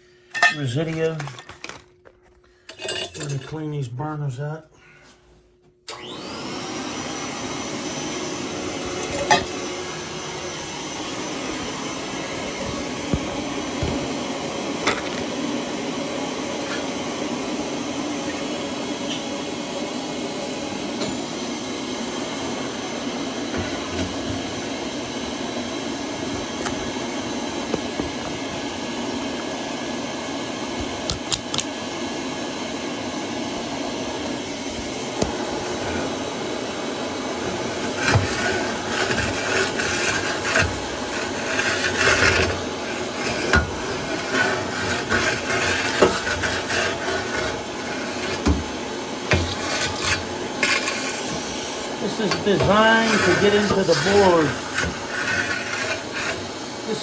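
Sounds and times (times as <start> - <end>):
vacuum cleaner motor: 5.9 - 57.0.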